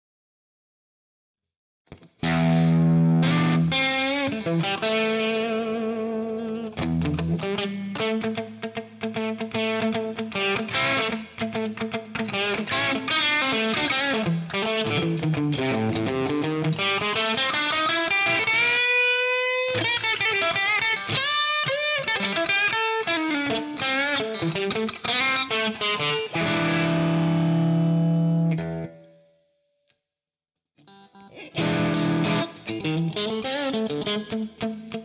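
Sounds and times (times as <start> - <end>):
overdriven electric guitar: 1.9 - 29.2, 30.8 - 35.0.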